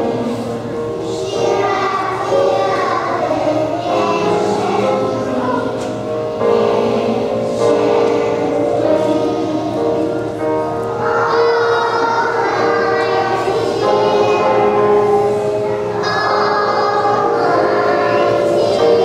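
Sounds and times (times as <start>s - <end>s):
children singing in unison: 0.0s - 19.0s.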